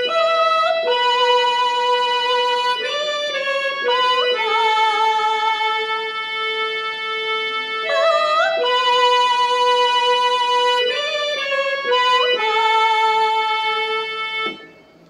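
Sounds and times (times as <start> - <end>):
keyboard harmonium melody: 0.0 - 15.0.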